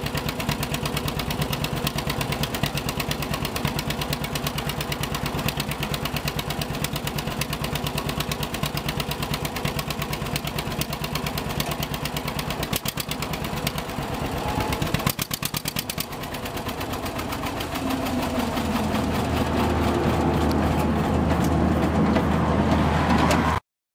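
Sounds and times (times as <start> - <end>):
tractor engine popping: 0.0 - 23.6.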